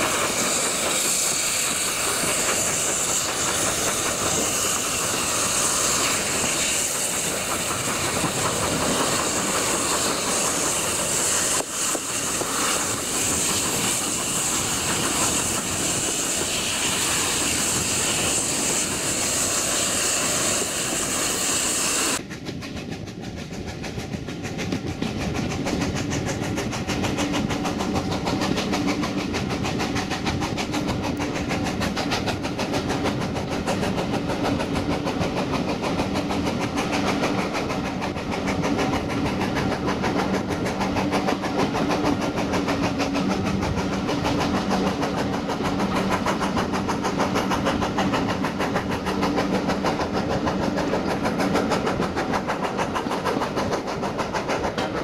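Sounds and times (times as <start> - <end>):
loud hiss of steam: 0.0 - 22.2, 25.8 - 55.0
train coaches rumbling on rails: 0.0 - 55.0.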